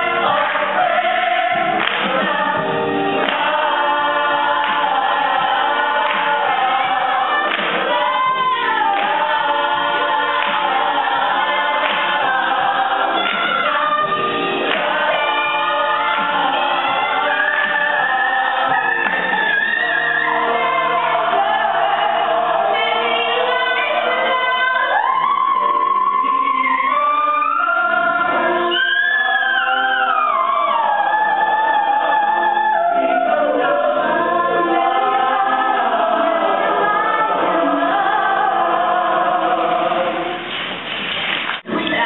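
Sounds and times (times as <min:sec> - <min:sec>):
ensemble choral singing: 0:00.0 - 0:40.6, 0:41.6 - 0:42.0.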